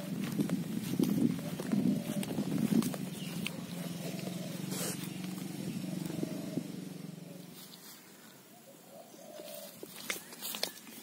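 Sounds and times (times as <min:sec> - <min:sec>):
footsteps on grass: 0:00.0 - 0:08.4, 0:09.3 - 0:11.0
low steady hum: 0:00.0 - 0:09.4.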